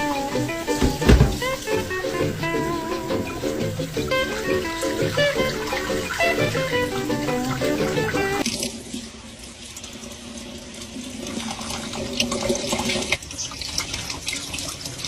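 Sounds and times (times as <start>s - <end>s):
tap water running and splashing: 0.0s - 15.0s.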